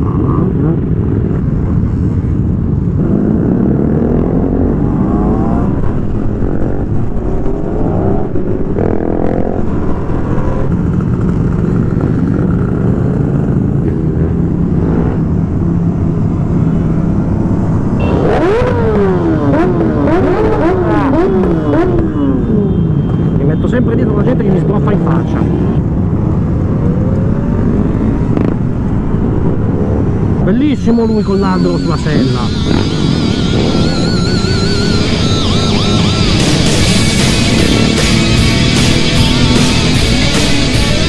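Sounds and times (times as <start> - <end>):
motorcycle engines accelerating: 0.0 - 41.0.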